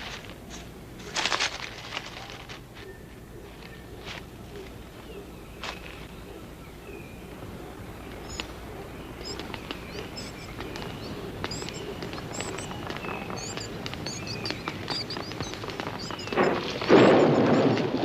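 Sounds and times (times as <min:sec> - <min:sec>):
forest birds chirping: 0:00.0 - 0:18.0.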